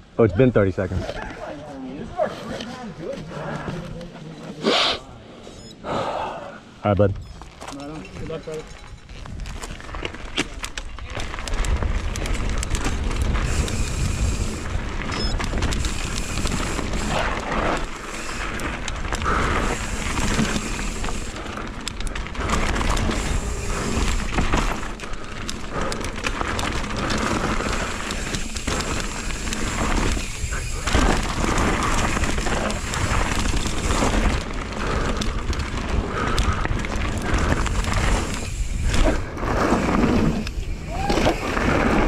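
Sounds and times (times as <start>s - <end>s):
bike clattering and rattling: 7.2s - 42.0s
tyres rumbling over dirt: 8.2s - 42.0s.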